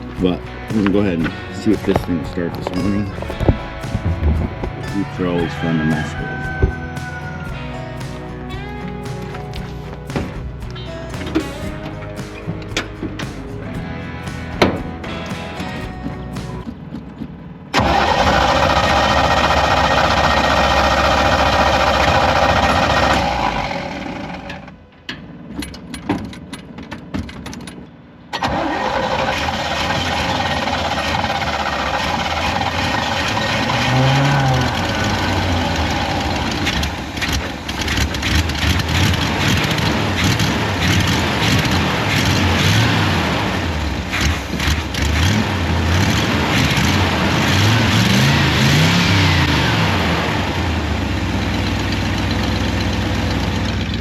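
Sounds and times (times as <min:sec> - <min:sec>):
engine revving: 0:00.0 - 0:16.7, 0:17.7 - 0:24.8, 0:28.4 - 0:54.0
engine running unevenly: 0:00.0 - 0:24.9, 0:28.4 - 0:54.0
engine cranking: 0:00.0 - 0:54.0.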